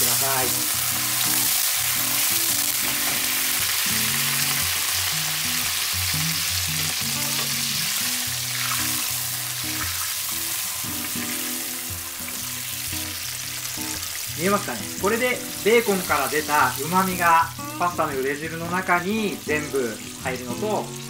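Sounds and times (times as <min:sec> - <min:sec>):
low background music: 0:00.0 - 0:21.0
water sizzling in hot fat: 0:00.0 - 0:21.0.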